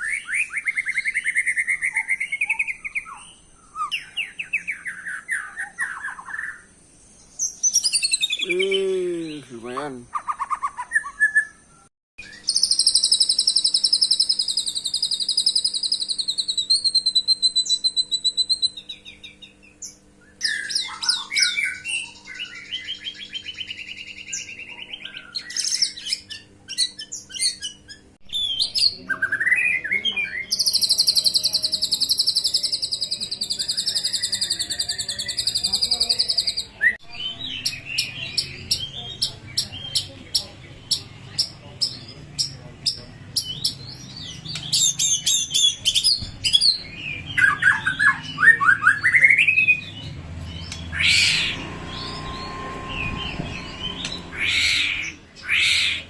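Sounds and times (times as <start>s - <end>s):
whistled and chattering bird phrases: 0.0s - 6.7s, 7.3s - 56.0s
bird singing rapid high trills: 0.0s - 56.0s.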